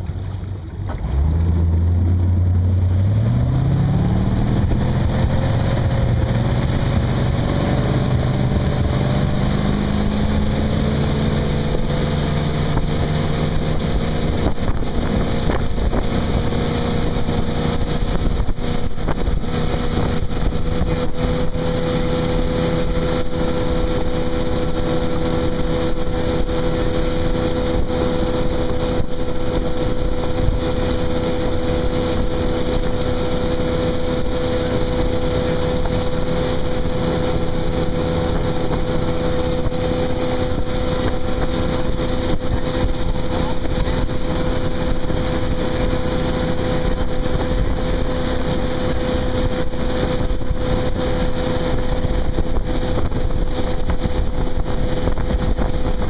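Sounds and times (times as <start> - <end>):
boat engine accelerating: 0.0 - 56.0
rush of spray and wind: 0.0 - 56.0.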